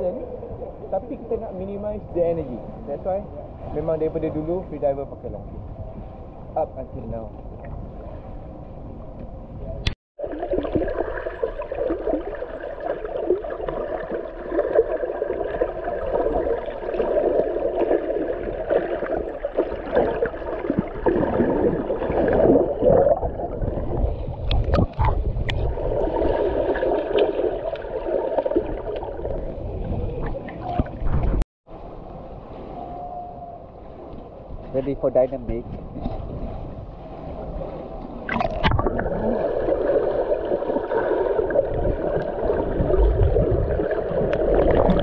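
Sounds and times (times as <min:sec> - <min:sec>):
underwater water gurgling and sloshing: 0:00.0 - 0:45.0.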